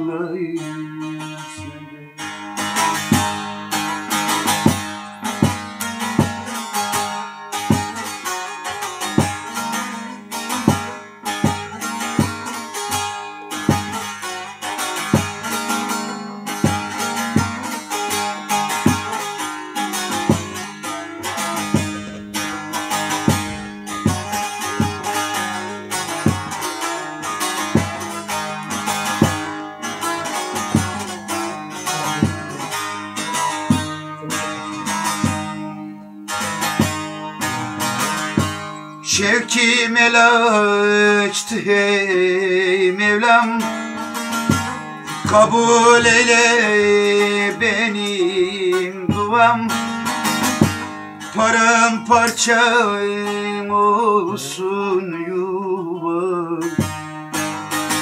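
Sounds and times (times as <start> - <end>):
long-necked lute strummed: 0.0 - 58.0.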